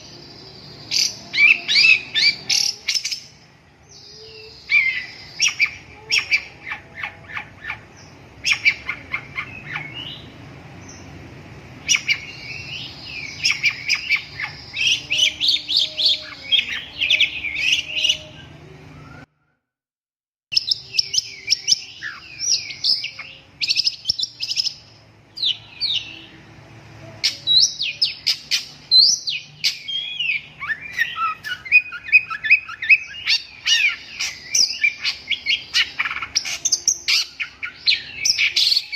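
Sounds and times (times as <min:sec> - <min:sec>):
bird singing scratchy chatter: 0:00.0 - 0:19.2, 0:20.5 - 0:38.9.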